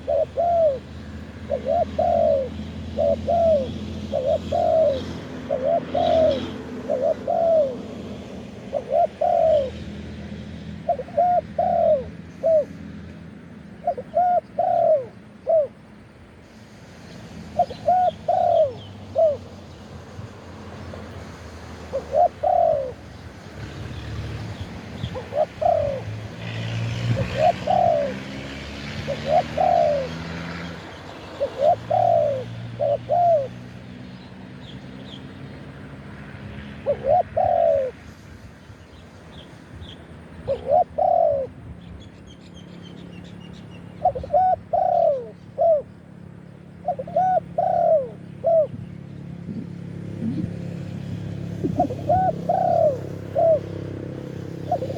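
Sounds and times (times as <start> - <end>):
dove cooing: 0.0 - 12.8, 13.7 - 15.9, 17.4 - 20.3, 21.6 - 33.9, 36.3 - 38.1, 39.3 - 41.6, 43.9 - 54.9.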